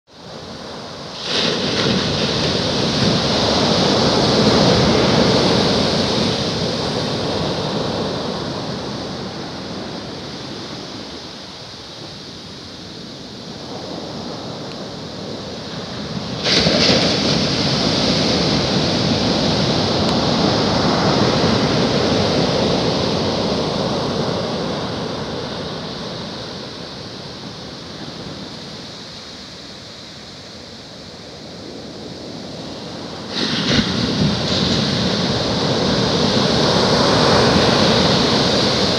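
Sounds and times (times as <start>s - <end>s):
ocean waves breaking: 0.2s - 30.2s, 31.6s - 38.9s.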